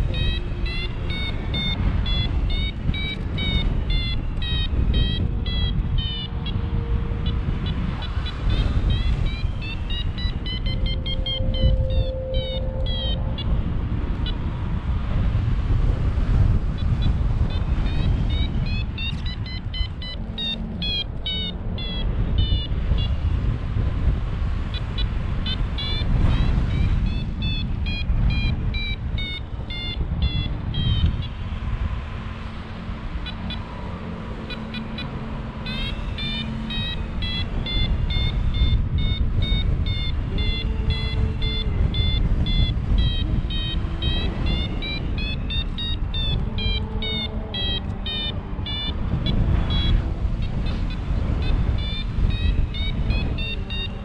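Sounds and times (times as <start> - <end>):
variometer beeping: 0.0 - 14.8, 15.8 - 23.5, 24.6 - 32.0, 32.8 - 54.0
wind rushing on microphone: 0.0 - 54.0.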